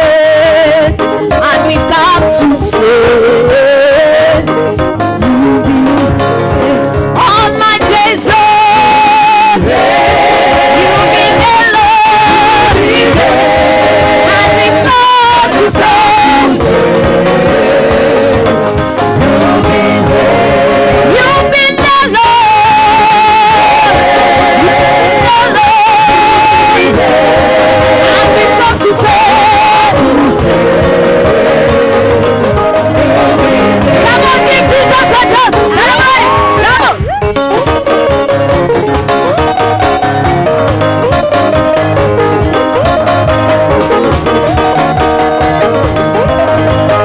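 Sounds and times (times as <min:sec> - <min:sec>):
choir singing gospel: 0:00.0 - 0:47.0
instrumental accompaniment: 0:00.0 - 0:47.0
lead singer: 0:00.0 - 0:47.0.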